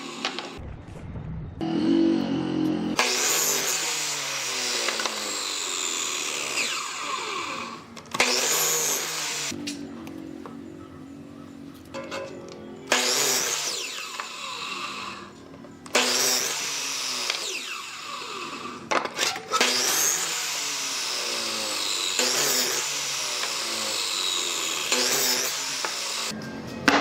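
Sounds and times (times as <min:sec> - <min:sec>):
handheld power tool whining: 0:00.0 - 0:00.6, 0:01.6 - 0:09.7, 0:12.9 - 0:26.4.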